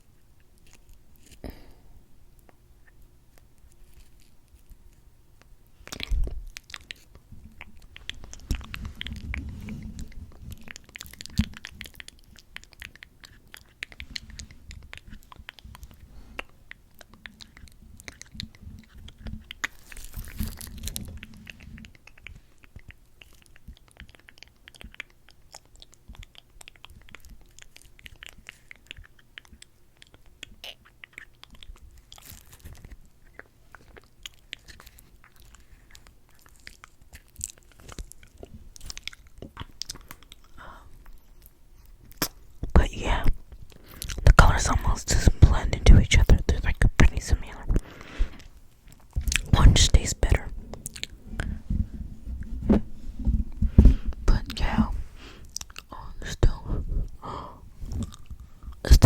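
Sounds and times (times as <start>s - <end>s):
wet lips clicking and smacking: 2.4s - 51.6s, 53.8s - 59.0s.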